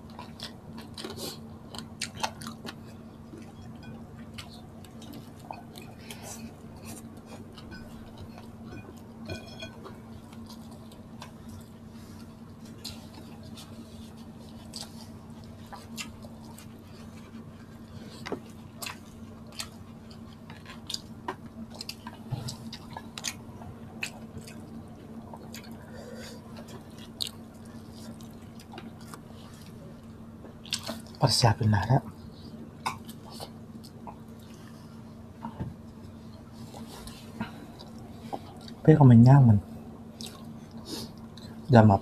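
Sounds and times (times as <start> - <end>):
people chewing with mouth smacks: 0.0 - 31.2, 32.1 - 38.9, 40.0 - 41.7
steady low hum: 0.0 - 42.0.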